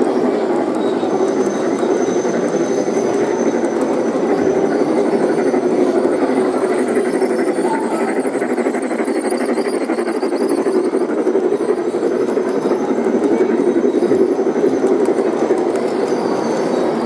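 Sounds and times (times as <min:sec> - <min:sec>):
model train wheels rolling: 0:00.0 - 0:17.0.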